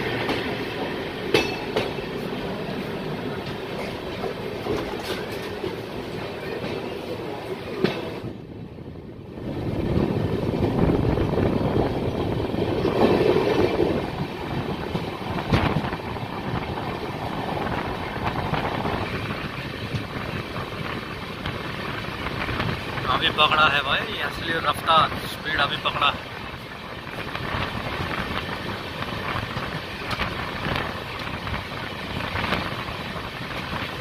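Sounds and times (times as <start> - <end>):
train wheel and rail rumble: 0.0 - 34.0.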